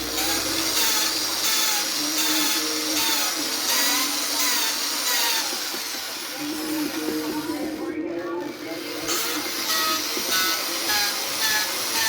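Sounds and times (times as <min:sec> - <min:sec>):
gritty valve grinding: 0:00.0 - 0:12.0
power tool whine: 0:00.0 - 0:12.0.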